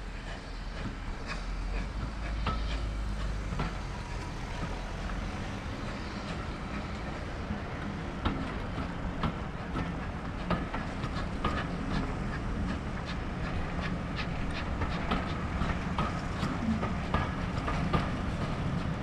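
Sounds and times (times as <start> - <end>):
train rumbling along track: 0.0 - 19.0
wheels clicking over rail joints: 0.0 - 19.0.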